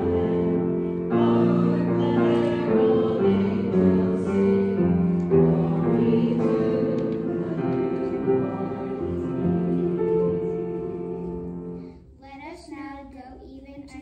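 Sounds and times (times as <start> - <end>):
voices singing: 0.0 - 11.8
piano accompaniment: 0.0 - 12.0.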